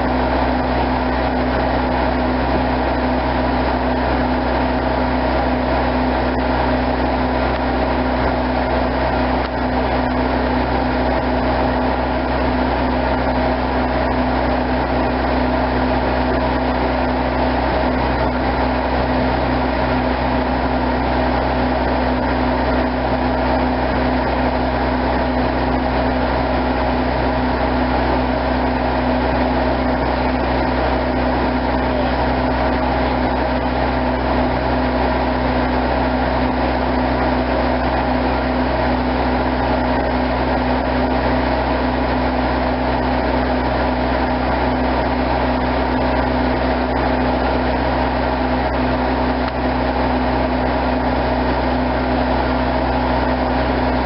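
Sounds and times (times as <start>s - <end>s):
heavy engine humming: 0.0s - 54.0s.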